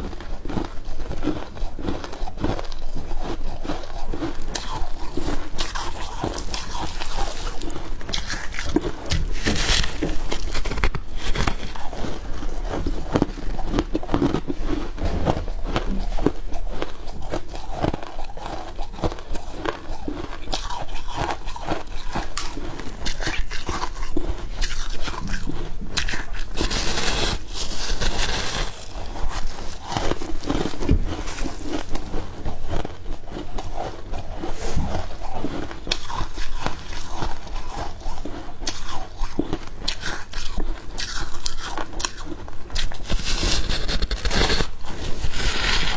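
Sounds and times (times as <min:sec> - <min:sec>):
chewing crunchy frost: 0:00.0 - 0:45.9.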